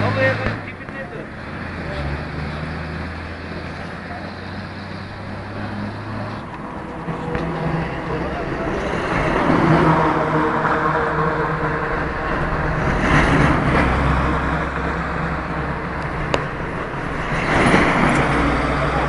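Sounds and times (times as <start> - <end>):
highway traffic road noise: 0.0 - 19.0.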